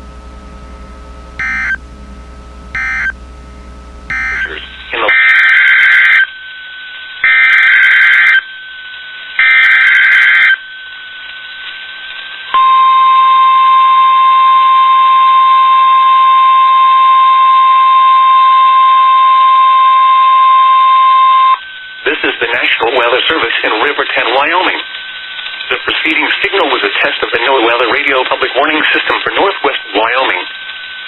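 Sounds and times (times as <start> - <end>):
buzzy data tone bursts: 0.0 - 31.0
steady warning alarm tone: 0.2 - 11.6, 12.5 - 31.0.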